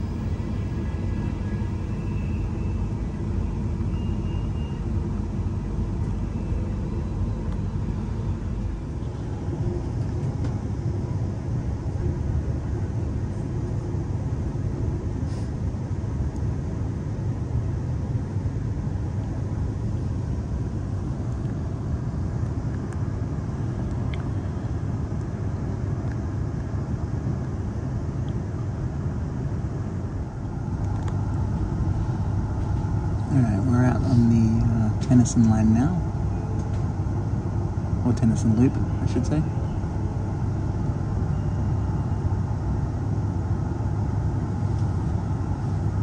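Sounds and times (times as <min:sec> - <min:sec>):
train rumbling inside carriage: 0:00.0 - 0:46.0.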